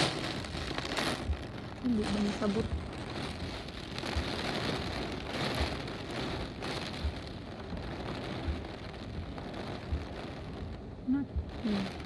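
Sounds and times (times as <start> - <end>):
dull low thuds: 0.0 - 12.0
heavy rain downpour: 0.0 - 12.0
strong wind: 0.0 - 12.0.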